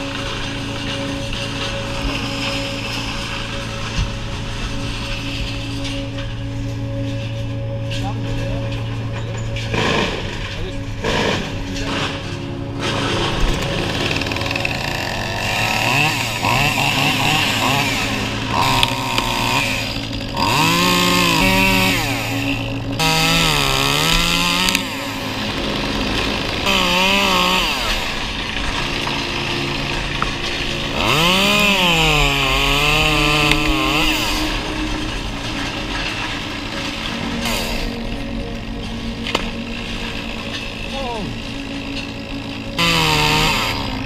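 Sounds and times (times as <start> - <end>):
chainsaw cutting wood: 0.0 - 44.0
chainsaw idling and revving: 0.0 - 44.0.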